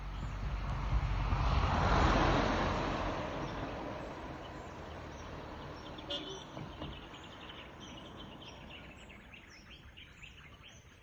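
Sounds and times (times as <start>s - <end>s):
vehicle passing by: 0.0s - 9.3s.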